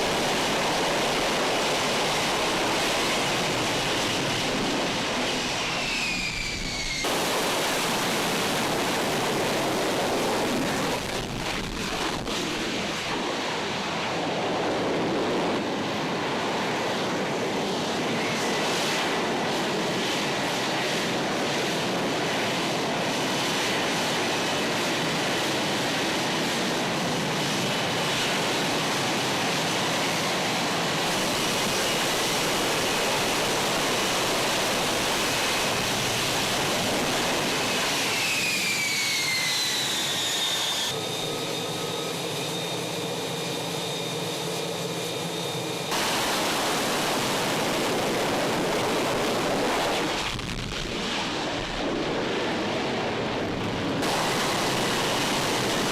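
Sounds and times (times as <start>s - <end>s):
jet engine running with whine: 0.0s - 55.9s.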